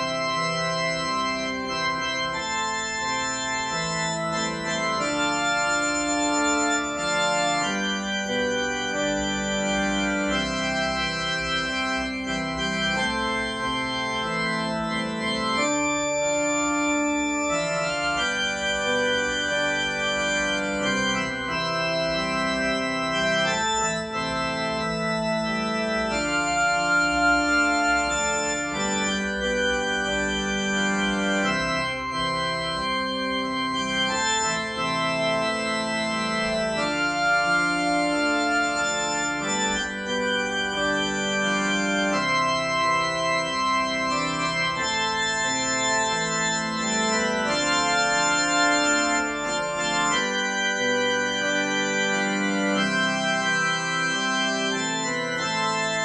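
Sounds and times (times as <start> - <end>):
organ hymn on keyboard: 0.0 - 56.0.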